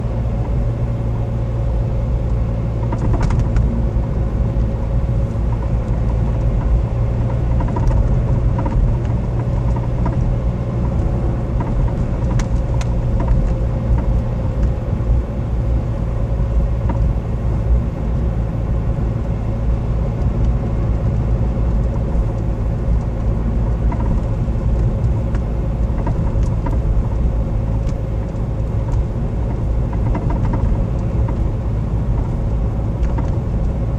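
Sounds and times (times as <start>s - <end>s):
car engine low rumble: 0.0s - 33.9s.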